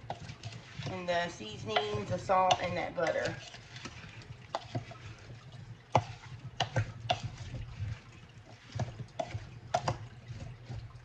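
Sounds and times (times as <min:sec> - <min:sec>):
wooden spoon knocking in crock: 0:00.0 - 0:05.0, 0:05.9 - 0:08.0, 0:08.6 - 0:10.8.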